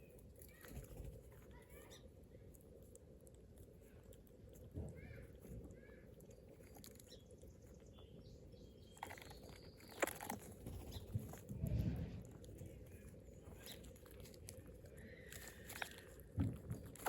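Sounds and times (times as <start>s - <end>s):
low steady background noise: 0.0s - 17.0s
small birds chirping: 0.0s - 17.0s.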